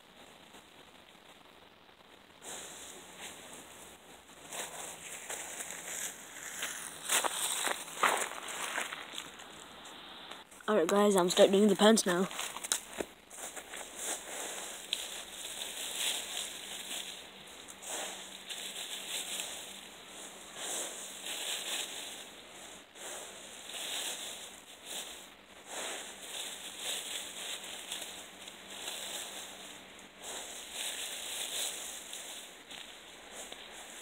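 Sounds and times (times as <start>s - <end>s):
dry leaves rustling and crunching: 2.4s - 9.6s, 11.2s - 34.0s.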